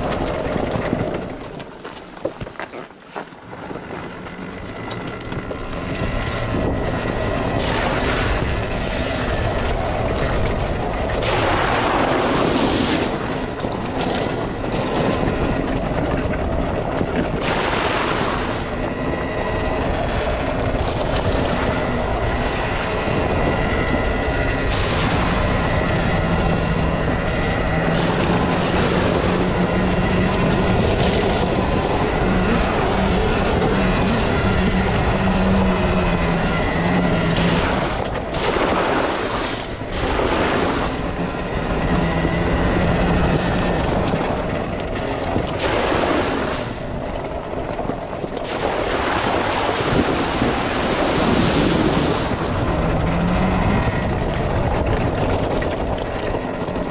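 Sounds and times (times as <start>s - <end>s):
tyre and riding noise: 0.0s - 56.9s
electric motor whine: 3.4s - 56.9s.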